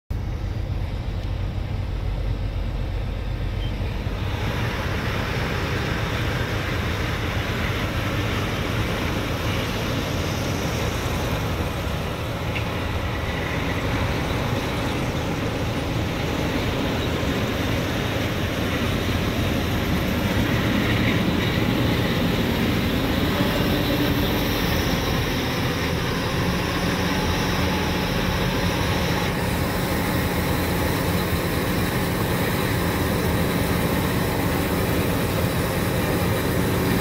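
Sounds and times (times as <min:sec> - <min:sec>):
harvester machinery noise: 0:00.1 - 0:37.0.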